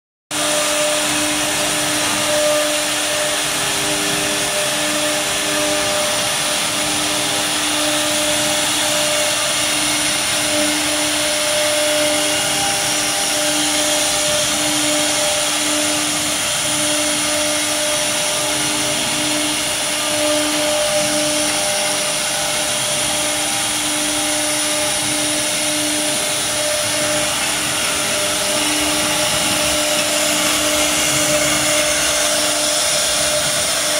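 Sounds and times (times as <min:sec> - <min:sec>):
cnc router spindle motor whine: 0:00.3 - 0:33.9
intermittent hum: 0:00.4 - 0:33.9.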